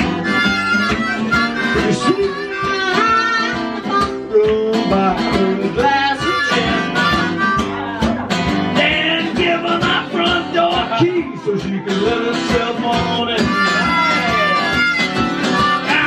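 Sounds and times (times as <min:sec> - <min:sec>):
blues harmonica: 0:00.0 - 0:11.2, 0:11.9 - 0:16.0
strummed acoustic guitar: 0:00.0 - 0:16.0.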